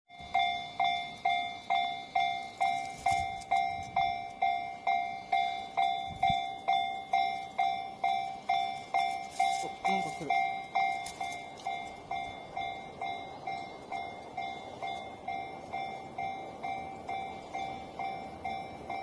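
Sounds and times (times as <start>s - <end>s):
level-crossing warning bell: 0.1s - 19.0s.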